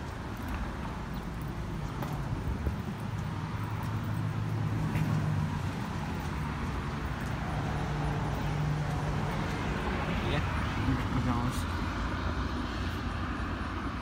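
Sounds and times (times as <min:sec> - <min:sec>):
motor traffic rumble: 0:00.0 - 0:14.0.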